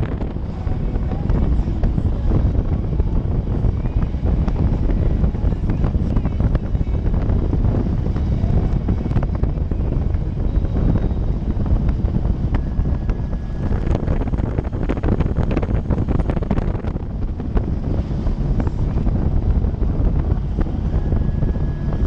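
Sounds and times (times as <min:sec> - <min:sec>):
motorcycle engine rumble: 0:00.0 - 0:22.0
road noise: 0:00.0 - 0:22.0
wind buffeting microphone: 0:00.0 - 0:22.0.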